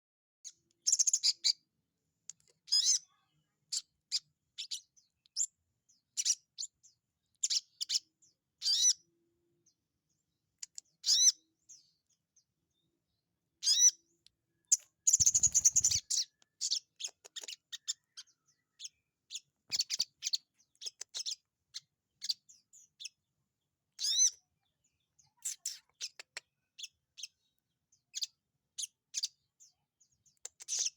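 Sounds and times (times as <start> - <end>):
bird chirping calls: 0.4 - 1.6, 2.4 - 9.8, 10.6 - 12.9, 13.6 - 23.2, 23.9 - 30.9.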